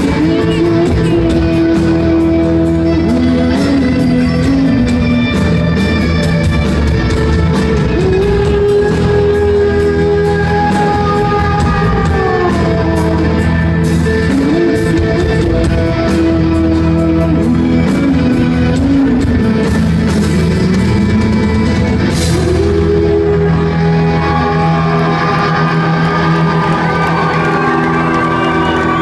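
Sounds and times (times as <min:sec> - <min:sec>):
rock band playing loudly: 0:00.0 - 0:29.0.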